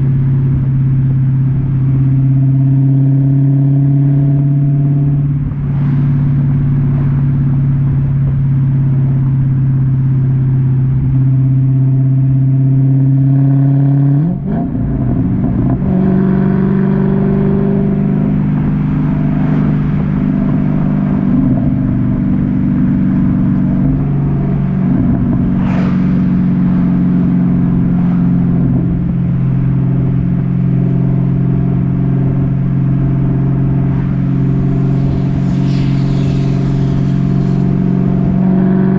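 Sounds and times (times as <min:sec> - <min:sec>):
car exhaust running: 0:00.0 - 0:13.6, 0:14.2 - 0:38.9.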